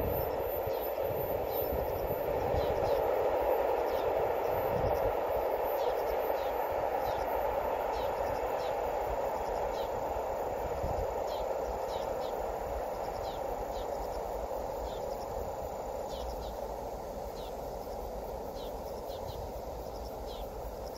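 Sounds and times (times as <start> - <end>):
freight train running: 0.0 - 20.9.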